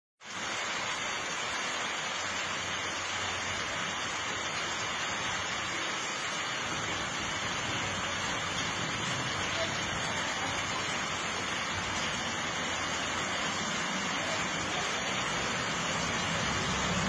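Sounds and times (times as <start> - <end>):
steady rushing noise: 0.8 - 17.0.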